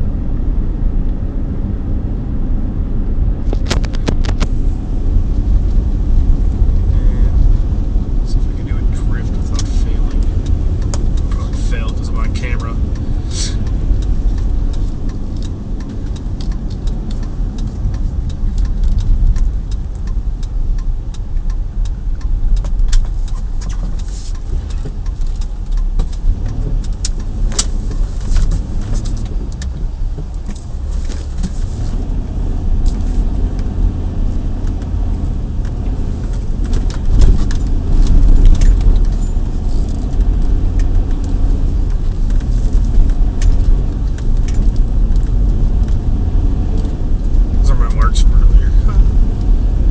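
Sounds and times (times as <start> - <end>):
engine and tyres rumbling: 0.0 - 49.9.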